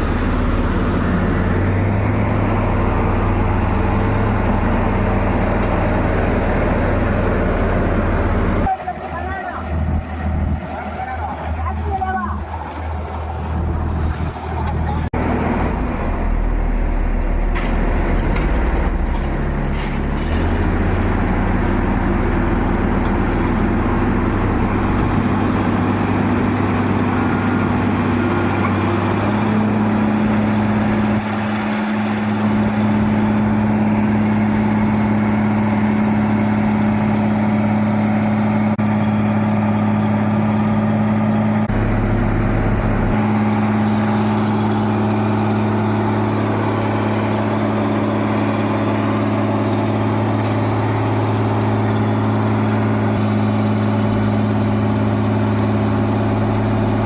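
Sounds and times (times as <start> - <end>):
loud engine drone: 0.0 - 57.0.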